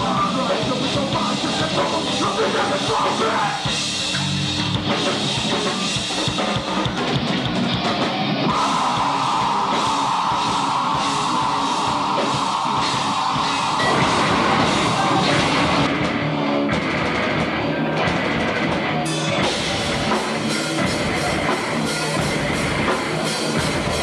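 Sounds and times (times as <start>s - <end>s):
heavy rock band playing: 0.0s - 24.0s.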